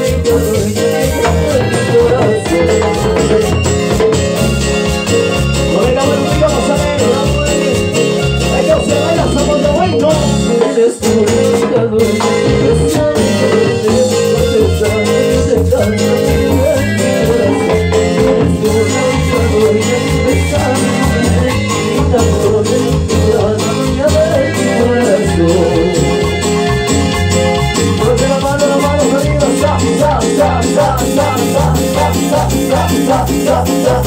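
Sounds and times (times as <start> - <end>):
latin dance band with singers: 0.0 - 34.0.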